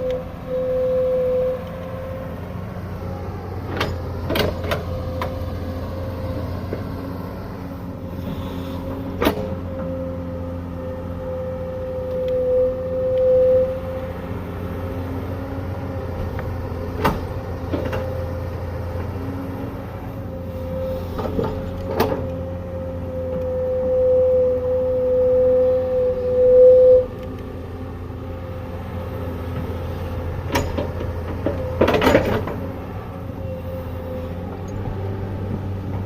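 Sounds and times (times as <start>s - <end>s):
excavator diesel engine hum: 0.0s - 36.0s
hydraulic whine: 0.0s - 36.0s.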